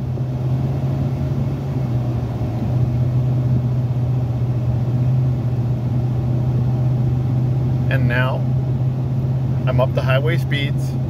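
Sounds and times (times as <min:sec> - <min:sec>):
engine and road noise in car cabin: 0:00.0 - 0:11.0.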